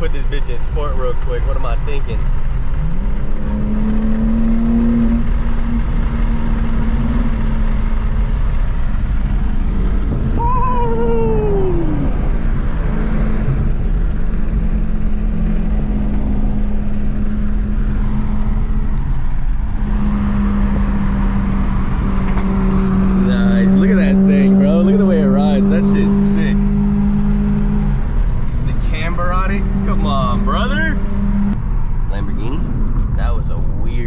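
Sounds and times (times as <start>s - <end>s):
car engine drone: 0.0s - 34.0s
road noise: 0.0s - 34.0s.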